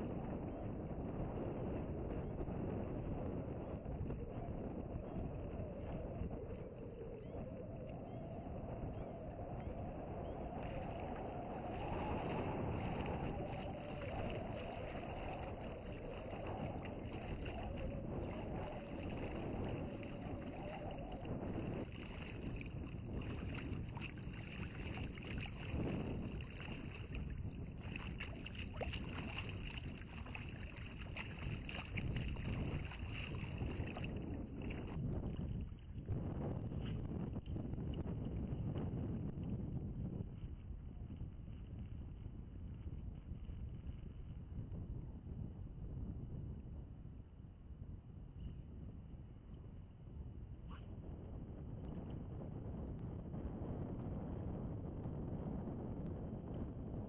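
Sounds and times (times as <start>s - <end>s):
low wavering hum: 0.0s - 46.7s
wind on microphone: 0.0s - 57.0s.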